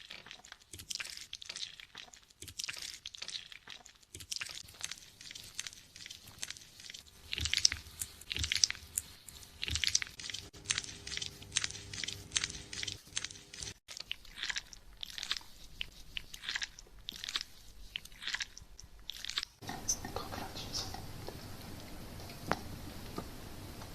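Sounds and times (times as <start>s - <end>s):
fingers scrubbing lathered scalp: 0.0s - 20.6s
lather crackling: 0.0s - 23.4s.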